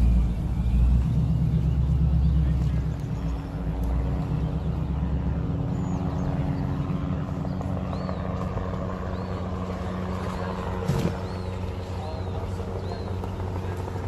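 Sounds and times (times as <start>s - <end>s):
road or wind noise: 0.0s - 14.0s
vehicle engine hum: 0.0s - 14.0s.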